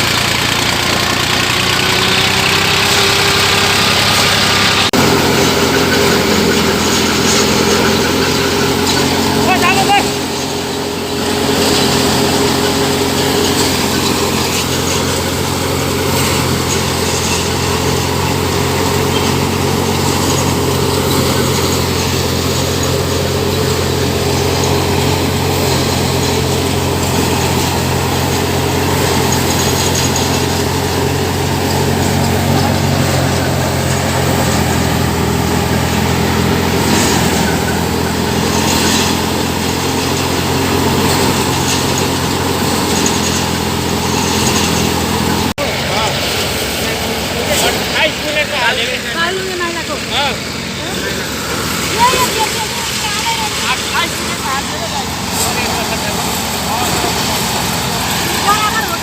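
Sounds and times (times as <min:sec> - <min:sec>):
engine hum: 0:00.0 - 0:59.0.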